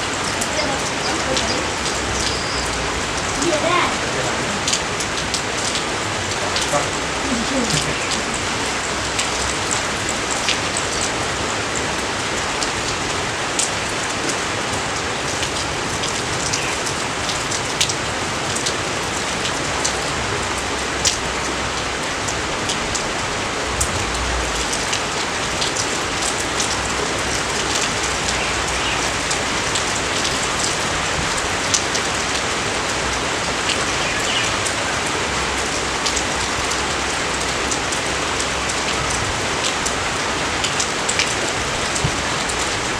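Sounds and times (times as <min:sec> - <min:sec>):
raindrops ticking close by: 0:00.0 - 0:42.9
steady rain hiss: 0:00.0 - 0:42.9.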